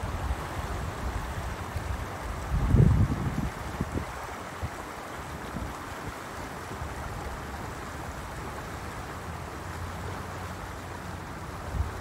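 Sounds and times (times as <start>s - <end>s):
river water rushing: 0.0s - 12.0s
wind rumble on microphone: 0.0s - 12.0s.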